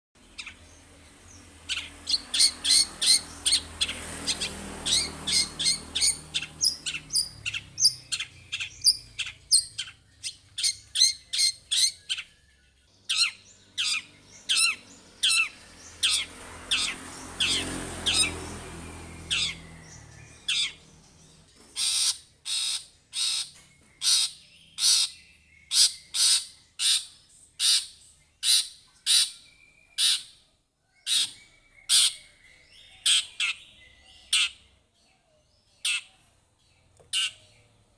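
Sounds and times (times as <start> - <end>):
bird singing harsh notes: 0.2 - 34.7.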